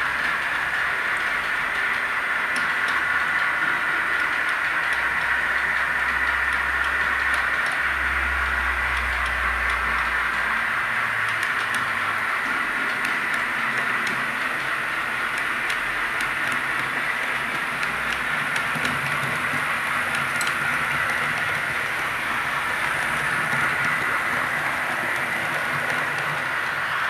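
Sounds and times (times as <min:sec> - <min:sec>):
model train whirring: 0:00.0 - 0:27.0.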